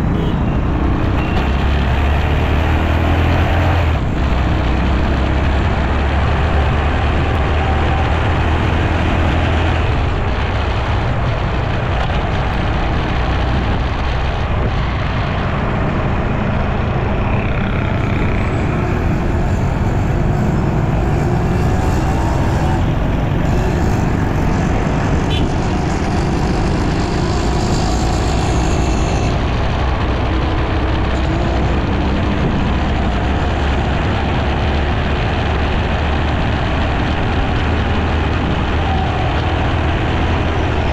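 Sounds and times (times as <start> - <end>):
motorcycle engine and road rumble: 0.0 - 40.9
other motorbikes and vehicles: 0.0 - 40.9.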